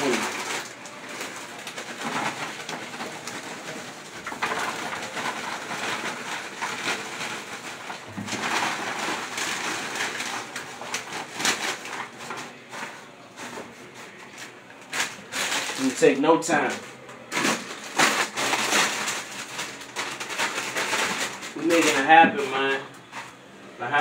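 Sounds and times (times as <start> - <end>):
chips crunching in crinkling bag: 0.0 - 22.9.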